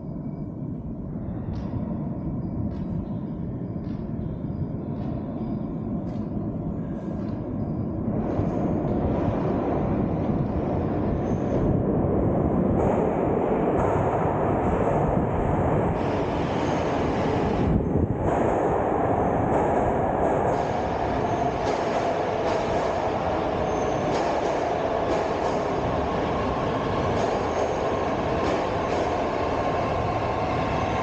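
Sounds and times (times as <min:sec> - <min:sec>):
train rumbling into station: 0:02.2 - 0:31.0.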